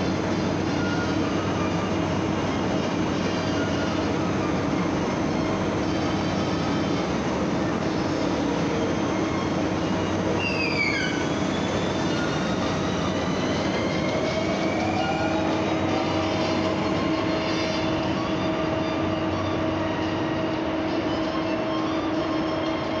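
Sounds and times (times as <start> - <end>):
train running rumble: 0.0 - 23.0
train whine: 0.0 - 23.0.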